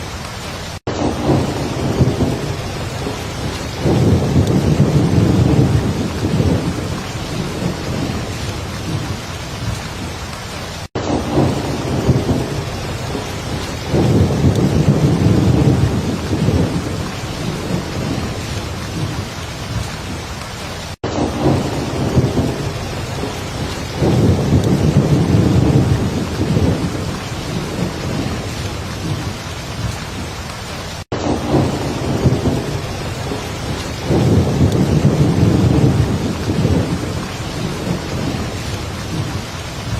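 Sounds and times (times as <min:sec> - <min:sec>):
heavy rain falling: 0:00.0 - 0:39.9
low rolling thunder: 0:00.8 - 0:10.1, 0:11.0 - 0:20.2, 0:21.0 - 0:30.3, 0:31.2 - 0:39.9.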